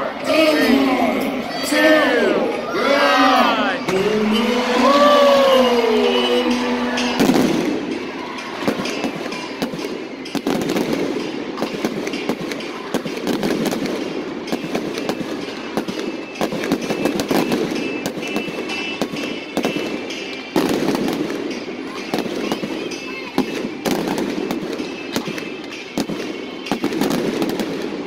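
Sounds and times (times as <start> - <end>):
fireworks bangs and crackles: 3.6 - 28.0.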